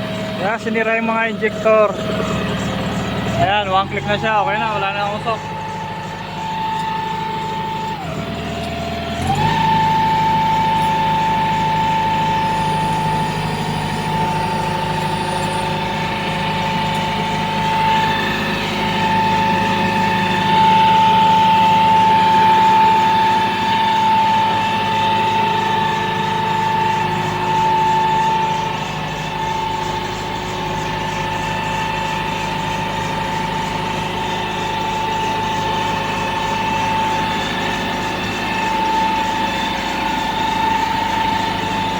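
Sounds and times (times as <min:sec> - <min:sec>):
diesel engine running: 0:00.0 - 0:41.9
high whine: 0:00.0 - 0:41.9.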